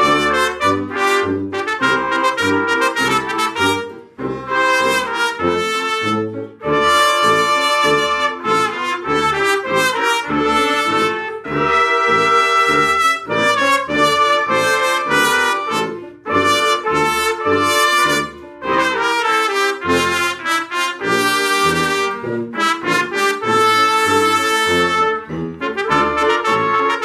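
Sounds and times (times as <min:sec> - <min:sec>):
trumpet ensemble playing: 0:00.0 - 0:27.0
tuba bass line: 0:00.0 - 0:27.0.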